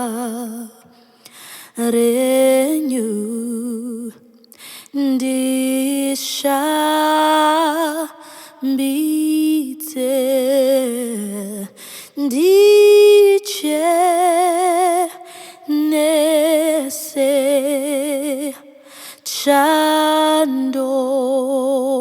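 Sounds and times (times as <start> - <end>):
woman singing unaccompanied: 0.0 - 1.0, 1.8 - 4.2, 4.9 - 22.0.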